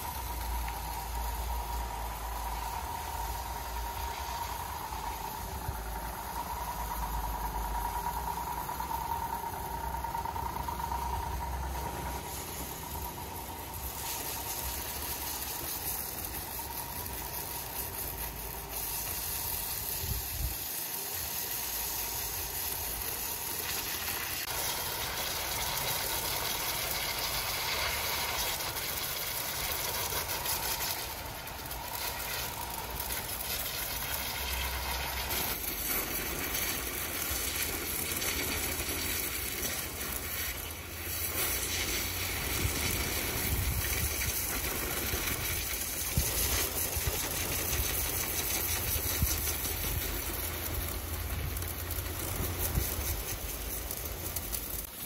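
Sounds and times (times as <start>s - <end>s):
high hiss: 0.0s - 55.0s
sawmill machinery drone: 0.0s - 55.0s.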